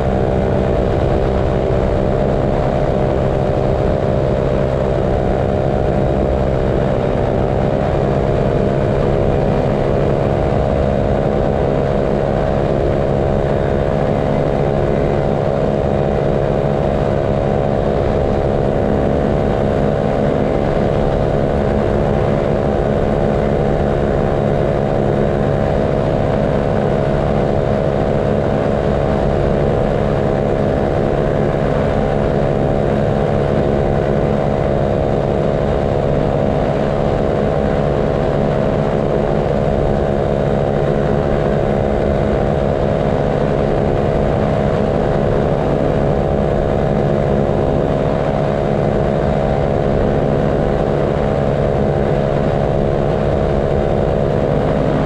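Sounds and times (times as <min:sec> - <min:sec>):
paramotor engine and propeller: 0:00.0 - 0:55.0.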